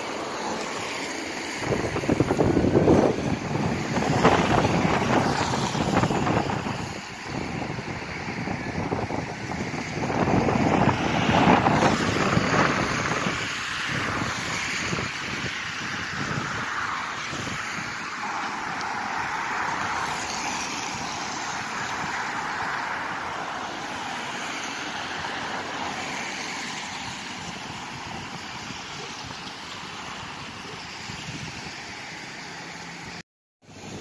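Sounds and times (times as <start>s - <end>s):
wind buffeting microphone: 0.0s - 24.1s, 24.9s - 32.1s
rushing river: 0.0s - 34.0s.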